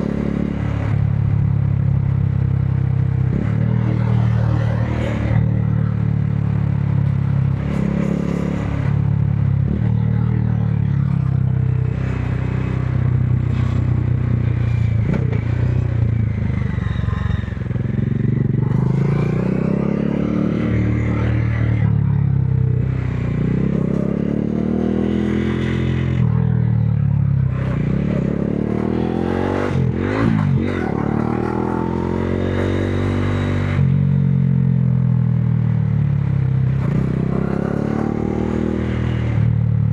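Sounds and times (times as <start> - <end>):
motorcycle engine revving while riding: 0.0 - 39.9.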